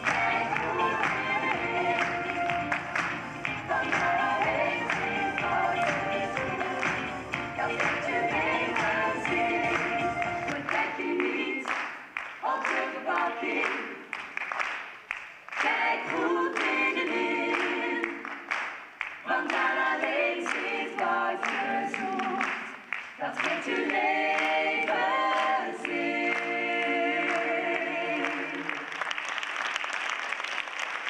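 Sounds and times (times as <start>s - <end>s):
group of people singing: 0.0s - 14.3s, 15.5s - 29.0s
audience applauding: 0.0s - 26.0s, 28.1s - 31.0s.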